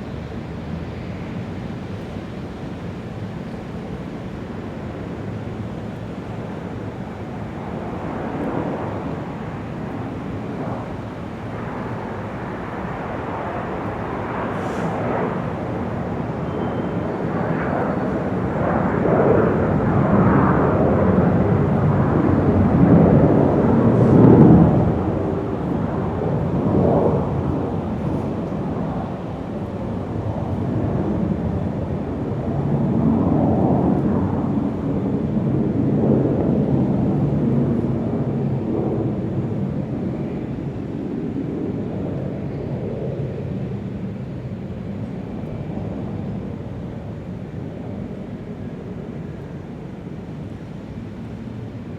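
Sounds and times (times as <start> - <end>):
rumbling airport background noise: 0.0 - 51.9.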